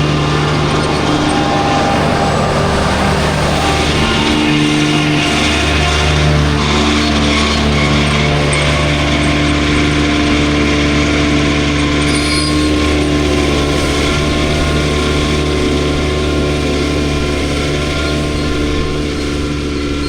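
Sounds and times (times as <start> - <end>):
mower cutter drive: 0.0 - 20.0
tractor engine drone under load: 0.0 - 20.0.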